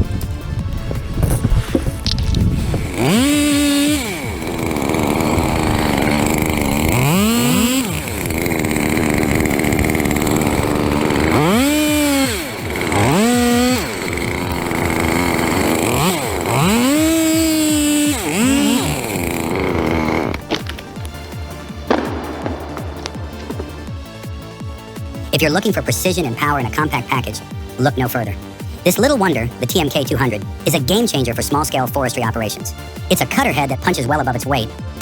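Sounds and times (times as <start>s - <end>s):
chainsaw revving: 1.2s - 35.0s.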